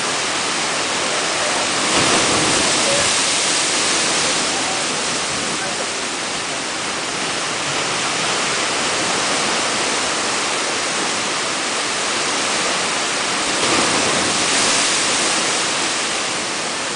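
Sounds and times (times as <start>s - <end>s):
surf rushing through rock inlet: 0.0s - 16.9s.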